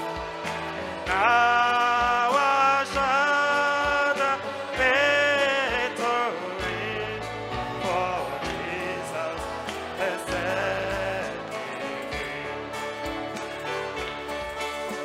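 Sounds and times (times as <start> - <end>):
band with drum beat: 0.0 - 15.0
person singing: 0.0 - 15.0.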